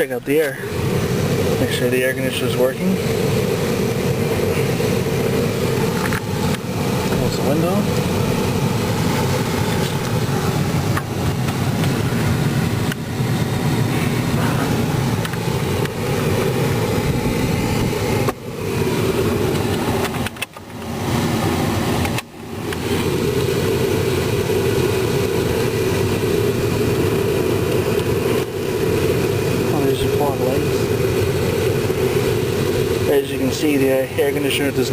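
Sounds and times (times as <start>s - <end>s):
blower fan rushing: 0.0s - 34.9s
engine idling: 0.0s - 34.9s.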